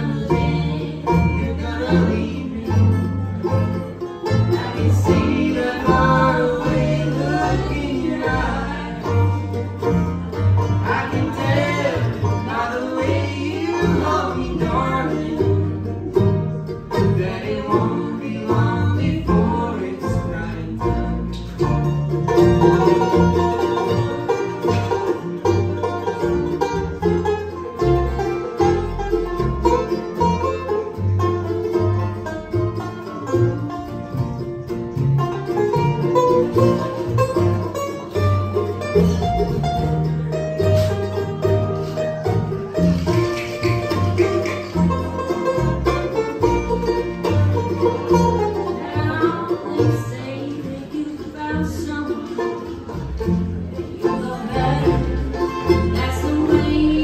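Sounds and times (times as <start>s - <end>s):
bass line: 0.0s - 57.0s
bluegrass band playing: 0.0s - 57.0s
picked banjo: 0.0s - 57.0s
strummed guitar: 0.0s - 57.0s.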